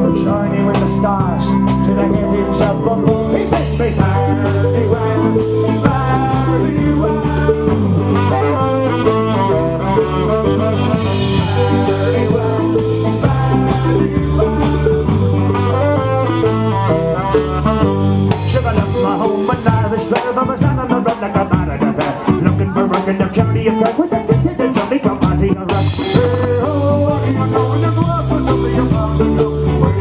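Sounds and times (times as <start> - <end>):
acoustic guitar: 0.0 - 30.0
drum kit: 0.0 - 30.0
electric bass: 0.0 - 30.0
quick lead melody: 0.0 - 30.0.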